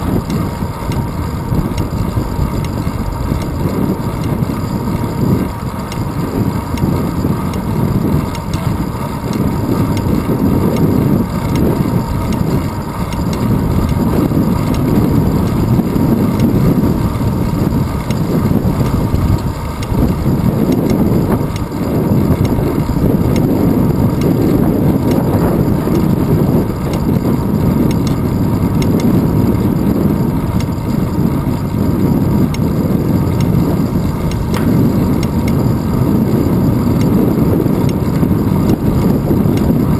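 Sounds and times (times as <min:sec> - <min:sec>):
road and tyre vibration: 0:00.0 - 0:39.9
wind buffeting microphone: 0:00.0 - 0:39.9.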